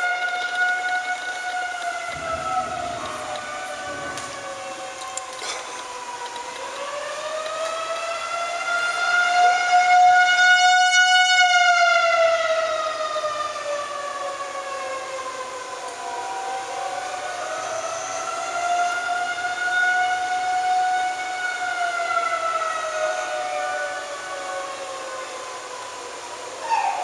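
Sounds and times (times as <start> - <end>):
warning sirens wailing: 0.0 - 27.0.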